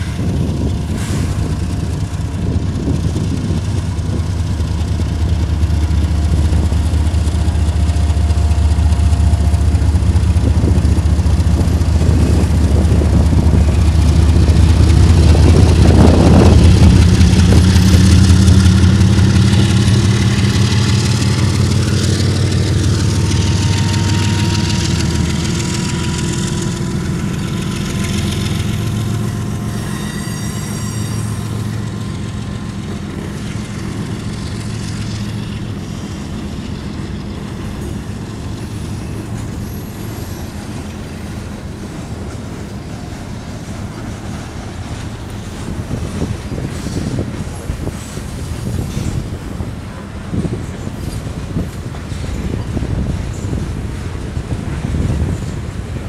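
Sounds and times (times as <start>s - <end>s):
diesel locomotives rumbling: 0.0s - 56.0s
freight cars rolling by: 0.0s - 56.0s.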